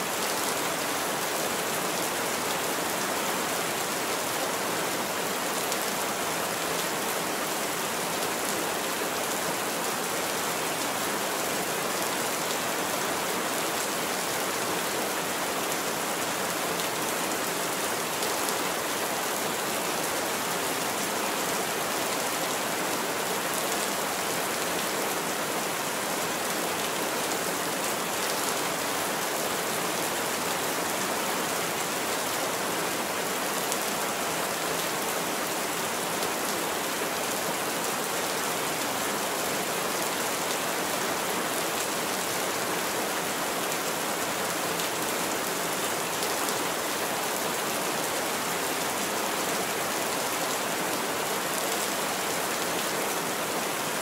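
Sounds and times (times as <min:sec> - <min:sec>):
heavy rain on a roof: 0:00.0 - 0:54.0.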